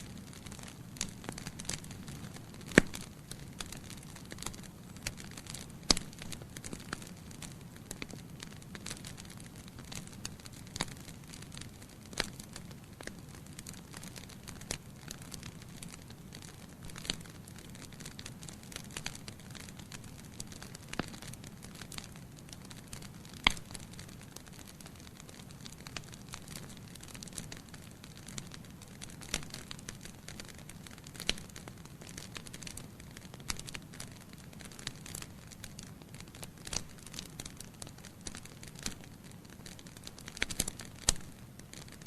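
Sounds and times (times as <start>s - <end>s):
logs crackling in a fireplace: 0.0s - 42.0s.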